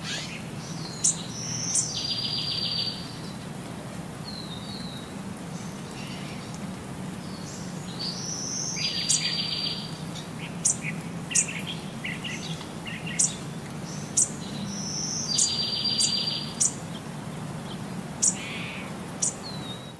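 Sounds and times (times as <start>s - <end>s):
songbird chirping and trilling: 0.0s - 3.4s, 7.2s - 19.9s.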